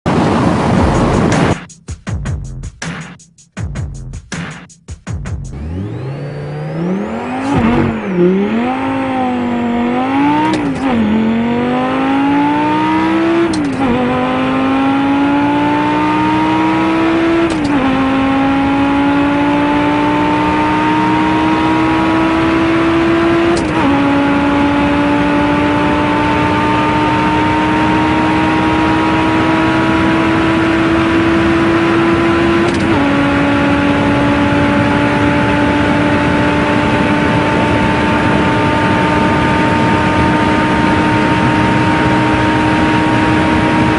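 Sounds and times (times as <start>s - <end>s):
car engine accelerating: 5.3s - 43.9s.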